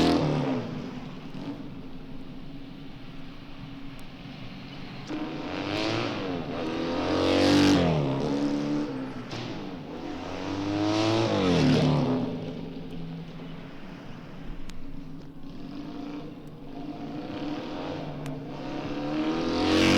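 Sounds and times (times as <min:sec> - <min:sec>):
motorcycles passing fast: 0:00.0 - 0:02.1, 0:04.2 - 0:19.9.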